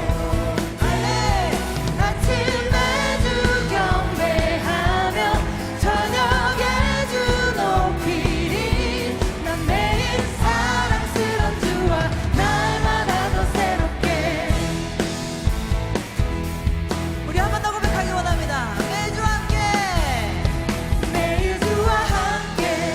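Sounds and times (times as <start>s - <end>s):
praise band playing: 0.0s - 22.9s
steady drum beat: 0.0s - 22.9s.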